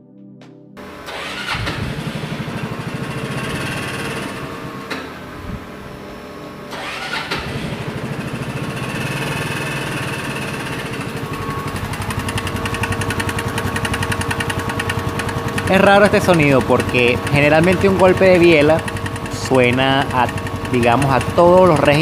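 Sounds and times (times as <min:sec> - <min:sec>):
scooter engine revving: 0:00.8 - 0:22.0
engine knocking: 0:01.9 - 0:04.8, 0:06.8 - 0:22.0.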